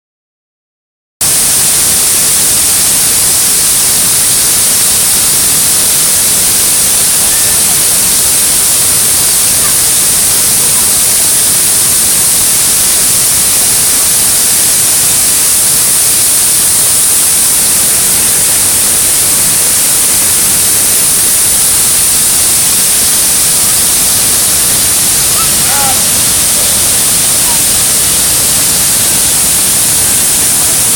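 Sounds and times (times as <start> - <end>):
waterfall rushing: 1.2 - 30.9.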